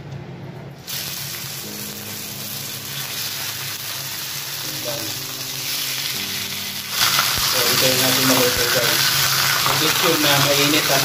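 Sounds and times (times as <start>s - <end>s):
fish sizzling in hot oil: 0.8s - 11.0s.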